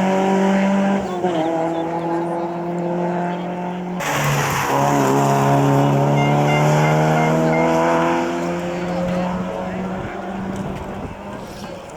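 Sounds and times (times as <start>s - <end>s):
race car engine at high revs: 0.0s - 11.9s.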